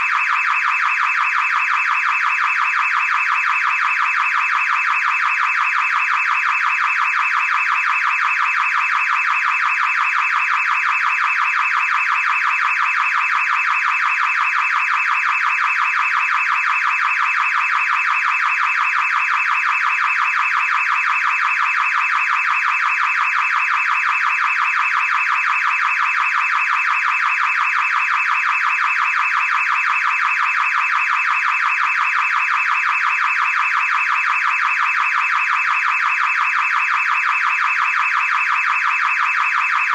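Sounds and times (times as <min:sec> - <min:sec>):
car alarm siren: 0:00.0 - 0:39.9.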